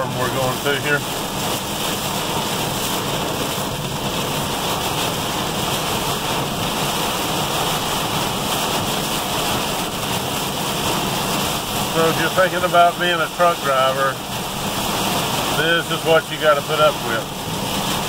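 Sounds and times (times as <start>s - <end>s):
heavy rain on a windshield: 0.0s - 18.0s.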